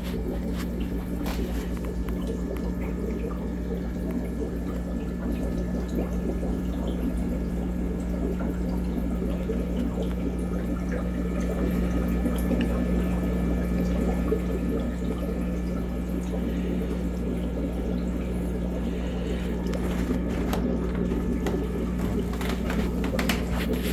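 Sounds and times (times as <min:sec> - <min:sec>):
aquarium water trickling: 0:00.0 - 0:23.9
low electric hum: 0:00.0 - 0:23.9.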